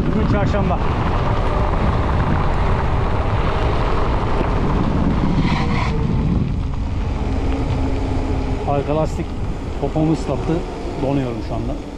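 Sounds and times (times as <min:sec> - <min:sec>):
tyres hissing on wet asphalt: 0:00.0 - 0:11.9
wind buffeting microphone: 0:00.0 - 0:11.9.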